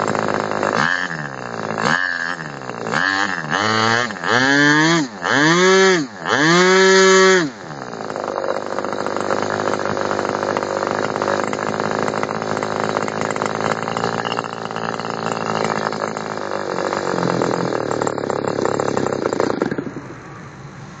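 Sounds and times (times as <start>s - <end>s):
model aircraft engine running: 0.0s - 21.0s.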